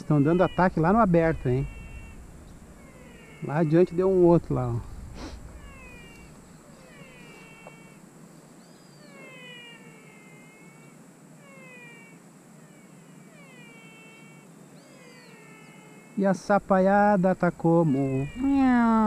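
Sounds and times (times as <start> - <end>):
frogs calling in chorus: 0.0 - 19.0.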